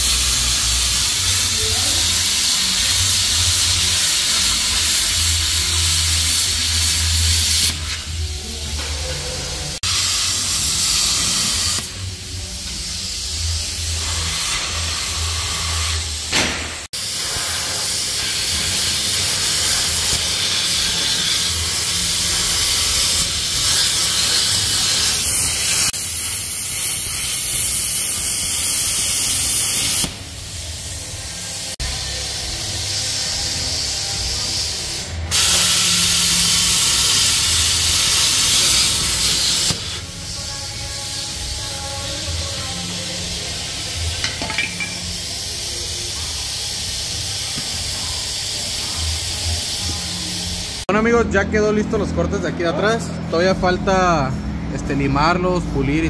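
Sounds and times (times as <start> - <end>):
plasma cutter hissing: 0.0 - 50.9.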